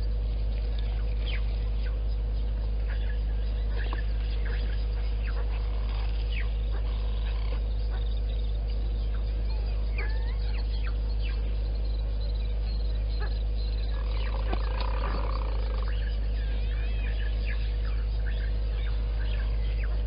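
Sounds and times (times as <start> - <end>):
birds chirping and whistling: 0.0 - 20.0
steady low hum: 0.0 - 20.0.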